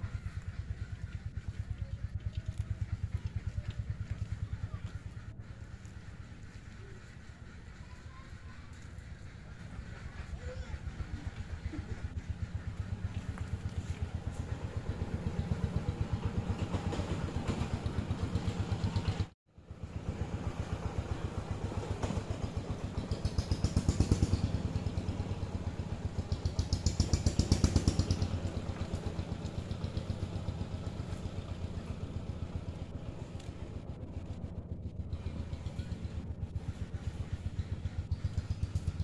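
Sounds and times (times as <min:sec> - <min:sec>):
engine running with rapid pulse: 0:00.0 - 0:39.0.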